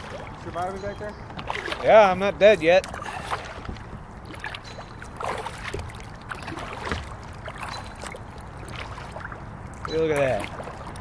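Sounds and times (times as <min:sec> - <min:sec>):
paddles dipping in water: 0:00.0 - 0:11.0
water splashing and dripping: 0:00.0 - 0:11.0.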